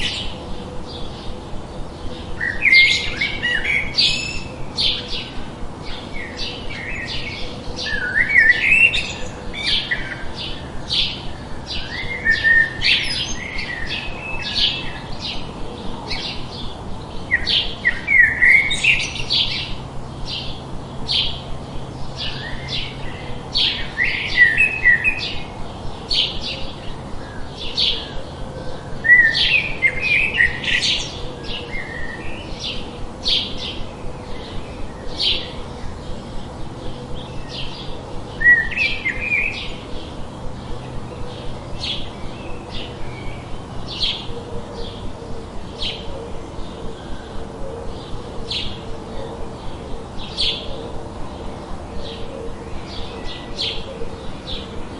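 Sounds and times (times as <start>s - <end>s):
background hiss: 0.0s - 54.9s
songbirds chirping: 0.0s - 54.9s.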